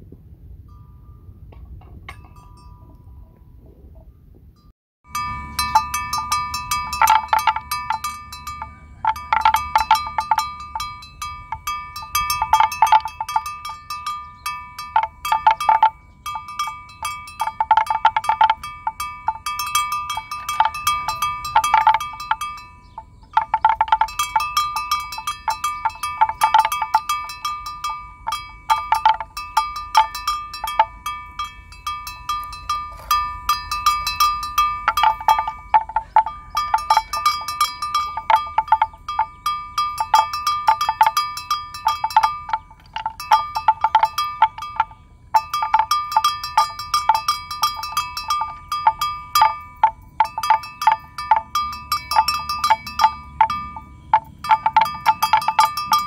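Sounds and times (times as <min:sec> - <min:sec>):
metal animal bell clanking: 0:00.6 - 0:56.0.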